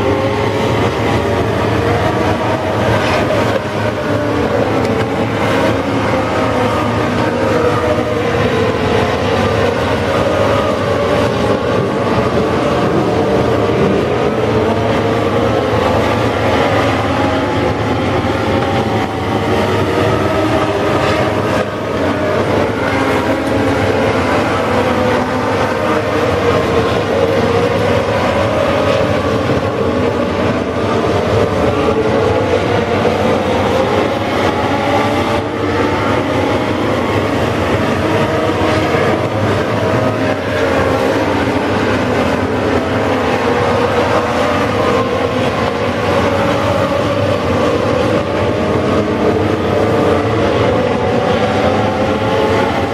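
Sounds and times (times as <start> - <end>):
race car engines running hard: 0.0 - 52.9.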